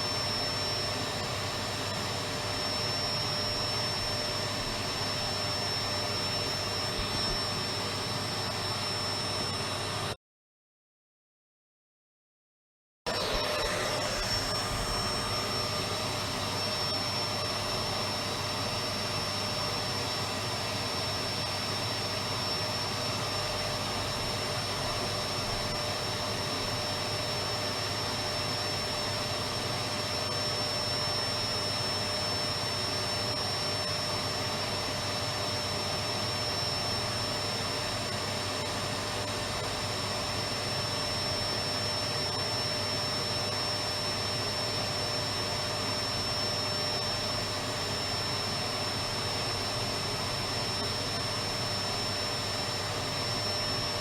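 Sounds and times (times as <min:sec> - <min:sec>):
vacuum cleaner running: 0:00.0 - 0:10.2, 0:13.1 - 0:54.0.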